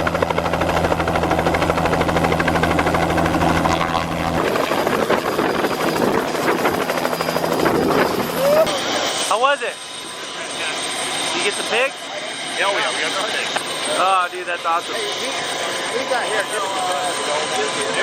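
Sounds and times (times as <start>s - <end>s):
helicopter rotor beating: 0.0s - 18.0s.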